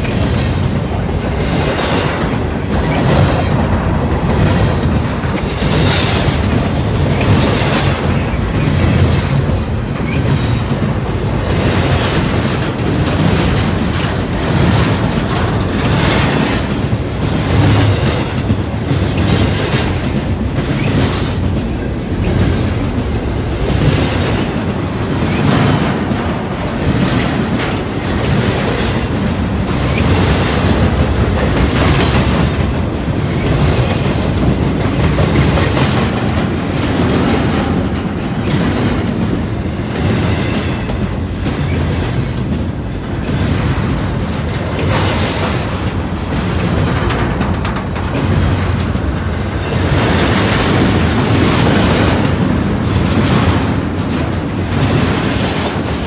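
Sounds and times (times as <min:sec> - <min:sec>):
train wheels clacking: 0:00.0 - 0:56.0
train wheels rumbling on rails: 0:00.0 - 0:56.0.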